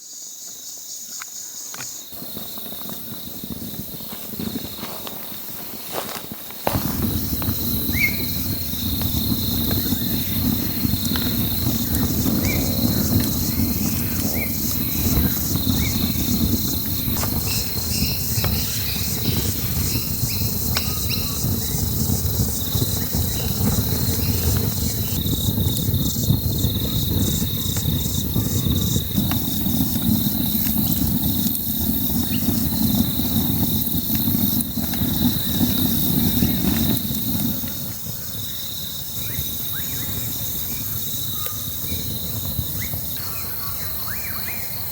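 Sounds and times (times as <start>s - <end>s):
insects chirring: 0.0s - 44.9s
campfire crackling: 2.1s - 44.9s.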